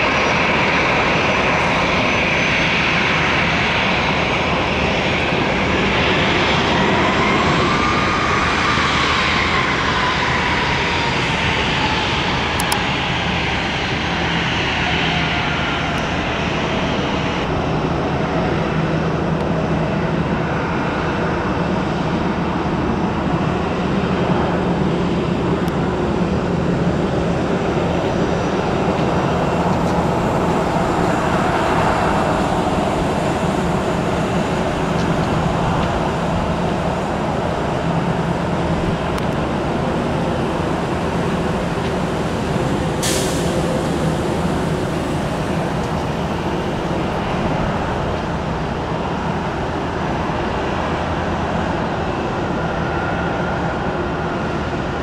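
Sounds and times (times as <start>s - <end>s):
jet engines passing: 0.0s - 55.0s.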